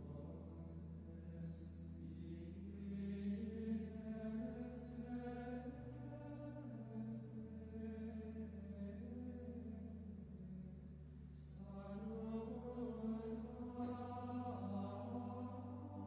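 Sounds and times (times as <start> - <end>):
soft music of held chords: 0.0 - 16.0.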